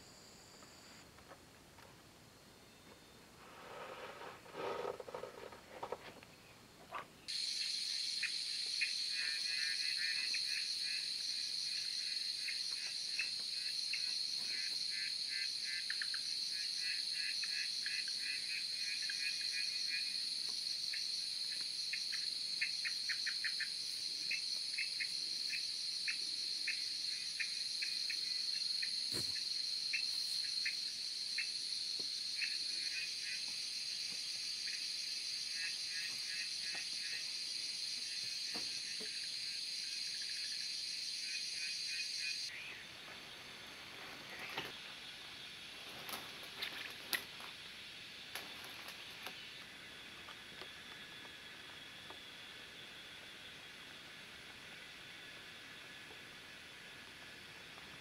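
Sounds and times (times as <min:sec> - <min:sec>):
insects chirring: 0:02.4 - 0:58.0
rapid insect chirps: 0:07.2 - 0:58.0.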